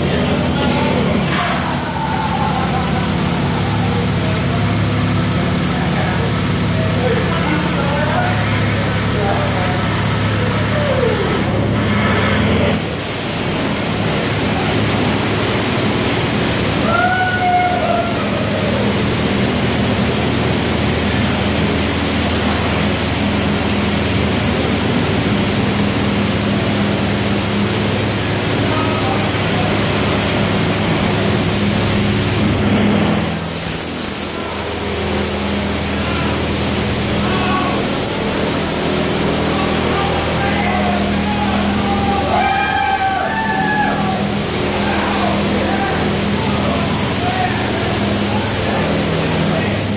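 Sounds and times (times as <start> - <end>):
machinery hum: 0.0 - 49.9
water jets spraying a car: 0.0 - 49.9.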